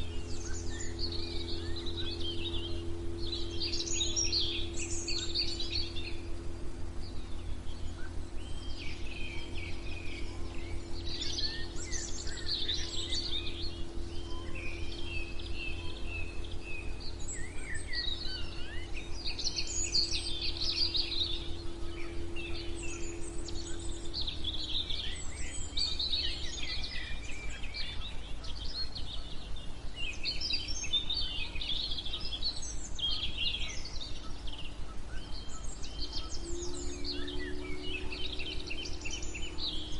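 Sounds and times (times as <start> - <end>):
faint steady hum: 0.0 - 39.9
low rumbling noise: 0.0 - 39.9
songbirds chirping: 0.0 - 39.9.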